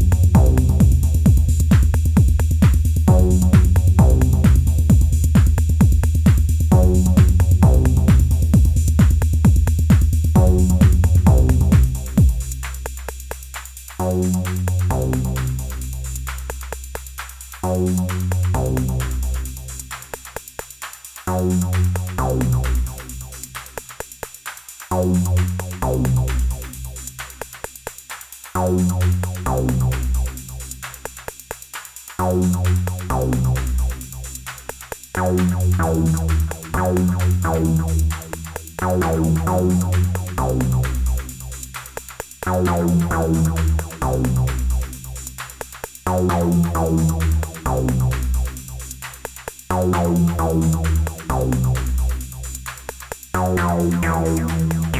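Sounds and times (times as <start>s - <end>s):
fast hi-hat ticks: 0.0s - 54.9s.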